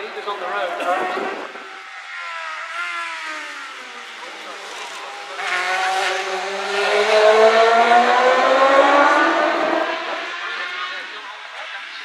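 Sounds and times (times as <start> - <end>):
racing engine accelerating: 0.0 - 12.0.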